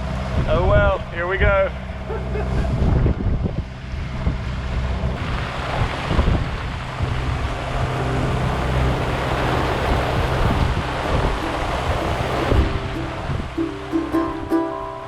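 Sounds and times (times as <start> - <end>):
boat engine hum: 0.0 - 15.0
wind rushing over microphone: 2.3 - 14.6.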